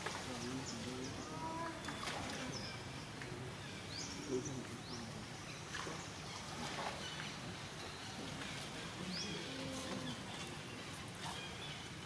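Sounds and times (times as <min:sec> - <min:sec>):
faint indistinct voices: 0:00.1 - 0:11.4.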